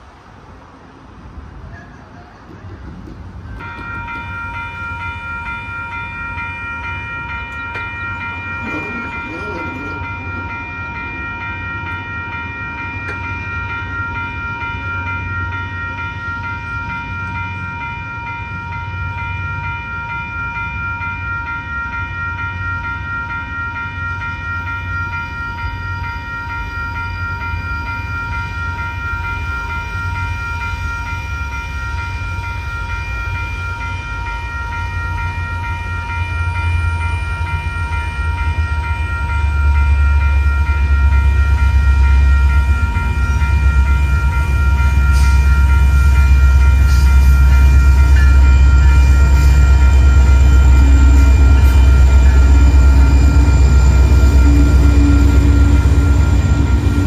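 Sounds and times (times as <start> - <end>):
diesel locomotive rumble: 0.0 - 57.0
railroad crossing bell ringing: 0.0 - 57.0.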